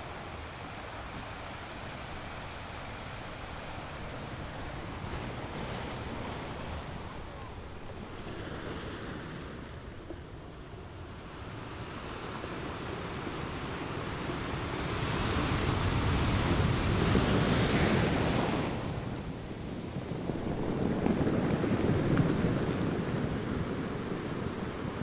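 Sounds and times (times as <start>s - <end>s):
sea surf waves: 0.0s - 25.0s.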